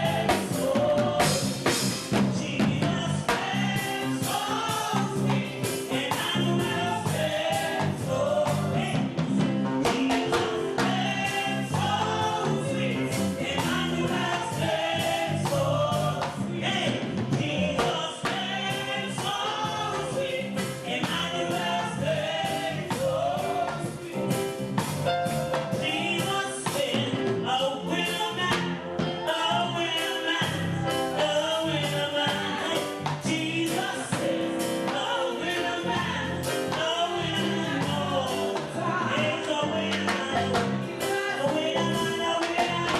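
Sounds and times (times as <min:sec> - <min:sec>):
band with bass and percussion: 0:00.0 - 0:42.9
choir singing gospel: 0:00.0 - 0:42.9.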